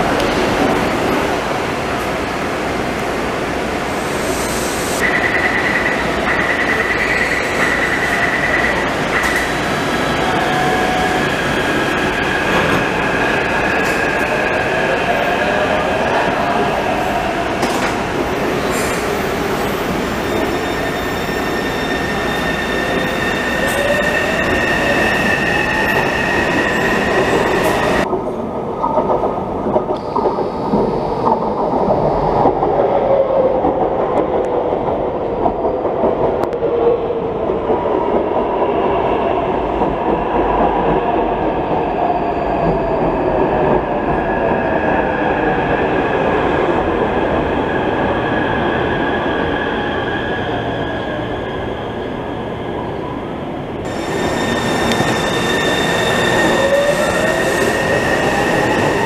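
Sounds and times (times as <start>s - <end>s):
train arriving on rails: 0.0s - 59.0s.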